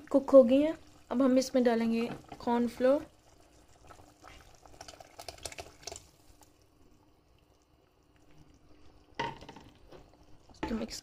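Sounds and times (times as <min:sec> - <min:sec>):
soup bubbling: 0:00.0 - 0:11.0.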